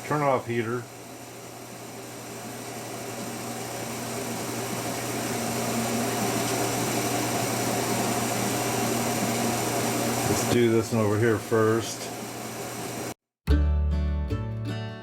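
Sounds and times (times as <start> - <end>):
fan heater whirring: 0.0 - 13.2.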